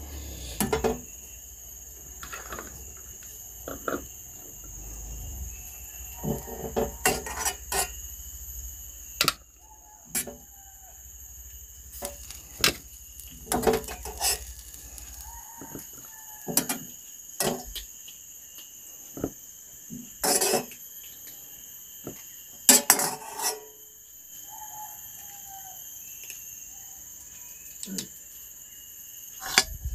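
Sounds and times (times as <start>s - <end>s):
insect chirring: 0.0s - 29.9s.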